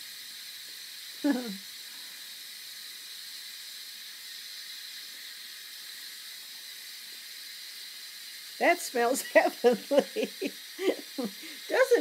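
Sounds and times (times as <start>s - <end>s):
pressure cooker steam hissing: 0.0s - 12.0s.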